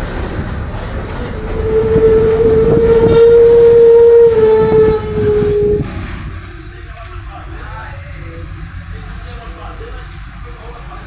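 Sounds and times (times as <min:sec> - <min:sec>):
bus differential whine: 0:00.0 - 0:11.0
bus engine rumble: 0:00.0 - 0:11.0.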